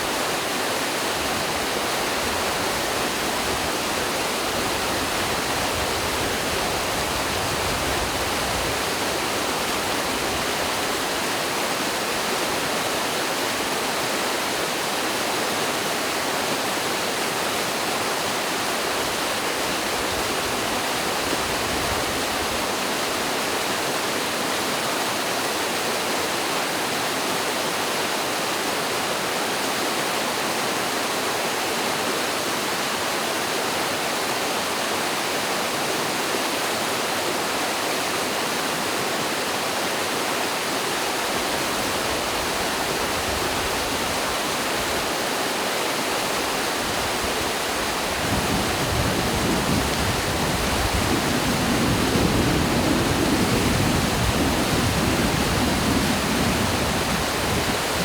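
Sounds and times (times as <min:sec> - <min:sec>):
water rushing over waterfall: 0:00.0 - 0:58.0.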